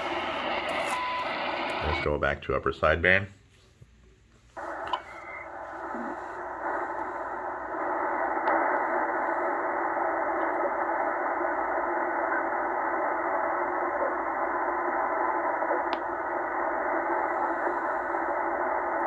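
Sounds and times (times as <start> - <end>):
radio static hiss: 0.0 - 2.9, 4.5 - 19.0.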